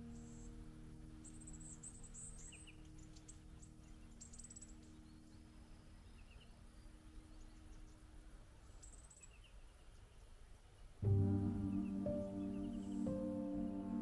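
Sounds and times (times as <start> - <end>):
faint low hum: 0.0 - 14.0
small birds chirping and trilling: 0.0 - 14.0.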